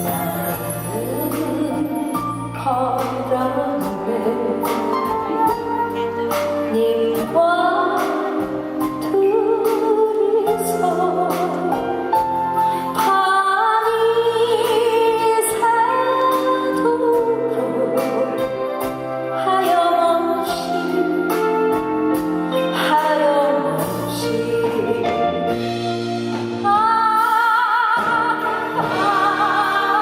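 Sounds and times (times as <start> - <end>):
woman singing a slow ballad: 0.0 - 5.8, 6.6 - 25.6, 26.6 - 30.0.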